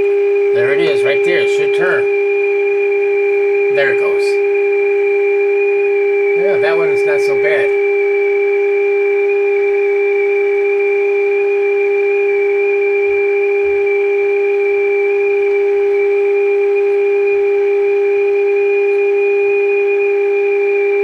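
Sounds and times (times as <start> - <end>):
steady test tone from radio speaker: 0.0 - 21.0.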